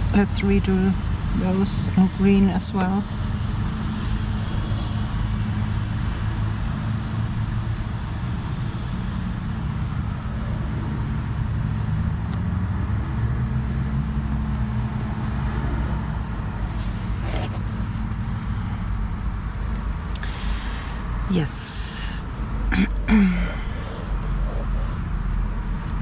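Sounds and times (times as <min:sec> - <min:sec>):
low rumbling traffic noise: 0:00.0 - 0:26.0.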